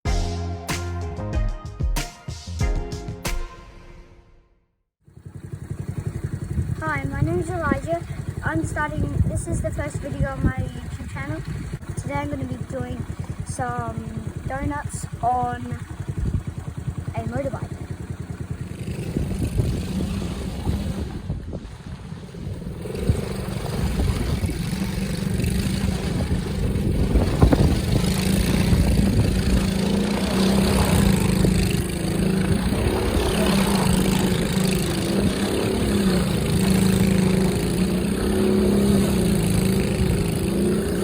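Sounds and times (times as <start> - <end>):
motorbike engine revving: 5.0 - 41.0.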